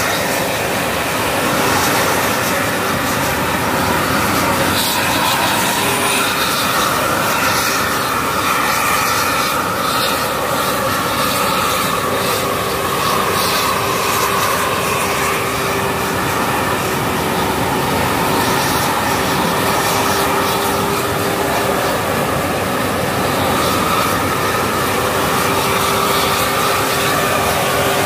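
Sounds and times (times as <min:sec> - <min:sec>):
machine running with whine: 0:00.0 - 0:28.0.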